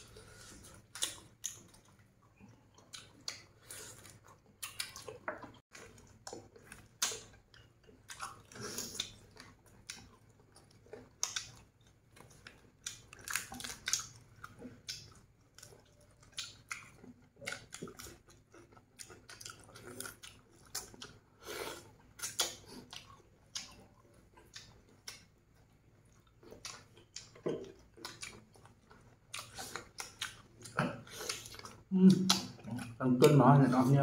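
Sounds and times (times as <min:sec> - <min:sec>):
people chewing food: 0:00.0 - 0:34.0.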